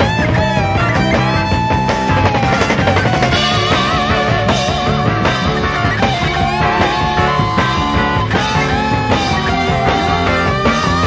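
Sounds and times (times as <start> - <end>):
bass: 0.0 - 11.0
drums: 0.0 - 11.0
lead guitar with vibrato: 0.0 - 11.0.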